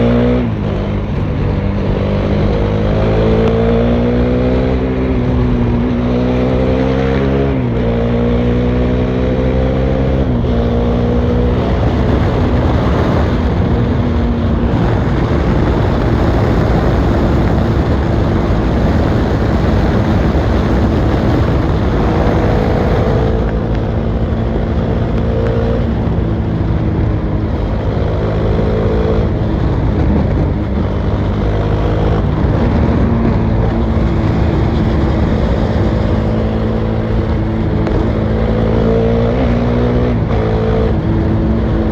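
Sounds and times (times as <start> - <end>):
motorcycle engine revving through gears: 0.0 - 41.9
wind noise: 0.0 - 41.9.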